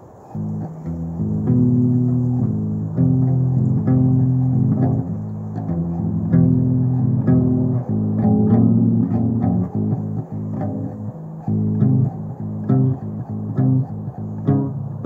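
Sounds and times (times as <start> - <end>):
electric upright bass plucked: 0.4 - 15.0.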